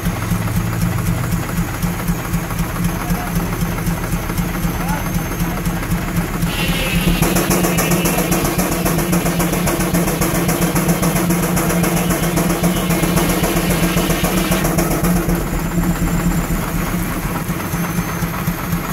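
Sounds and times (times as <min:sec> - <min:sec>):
low running sound: 0:00.0 - 0:18.9
steam engine exhaust beating: 0:00.0 - 0:18.9.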